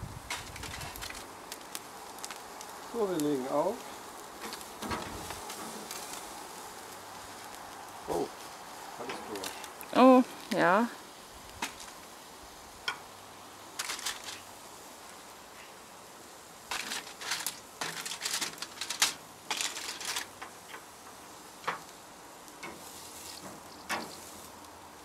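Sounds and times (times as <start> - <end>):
meat sizzling on a grill: 0.0 - 25.0.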